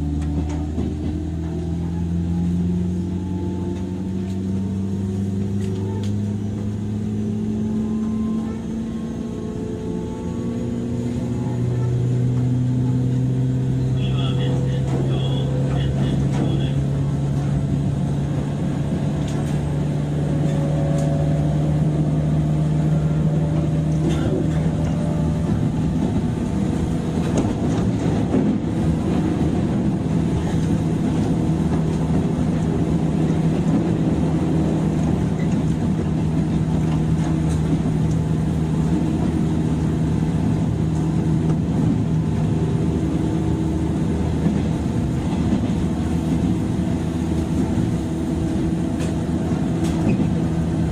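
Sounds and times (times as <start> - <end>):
train motor and gear hum: 0.0 - 50.9
wheels rumbling on rails: 0.0 - 50.9.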